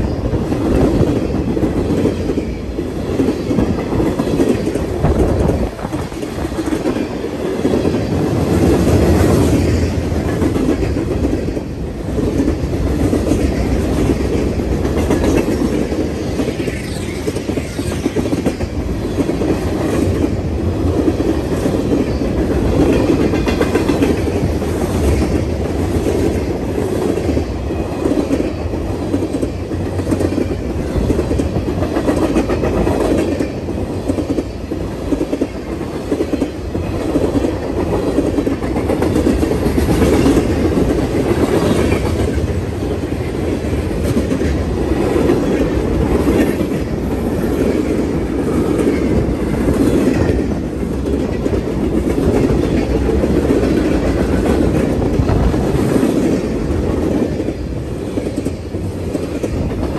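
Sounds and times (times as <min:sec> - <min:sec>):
steel wheels rumbling on rails: 0:00.0 - 0:59.9
wheels clickety-clack over rail joints: 0:00.0 - 0:59.9.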